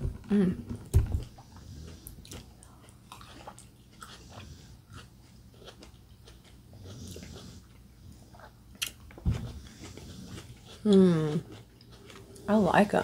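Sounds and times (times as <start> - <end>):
chewing and biting juicy grapes: 1.2 - 12.7.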